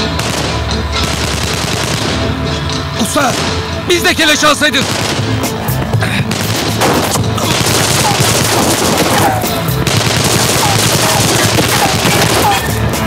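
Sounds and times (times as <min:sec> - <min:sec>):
rapid gunfire: 0:00.2 - 0:02.4, 0:03.2 - 0:03.7, 0:04.6 - 0:12.8.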